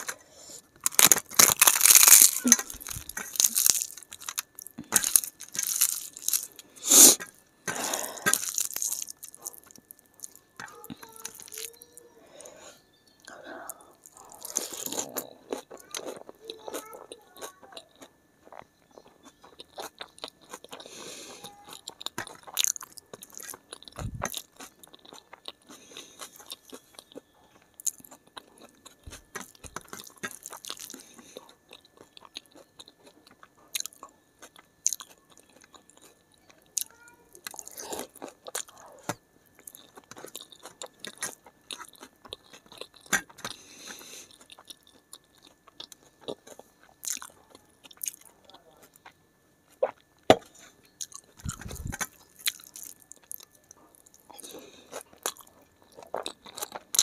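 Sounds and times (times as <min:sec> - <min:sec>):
wet chewing and crunching: 0:00.0 - 0:12.0, 0:13.2 - 0:57.0.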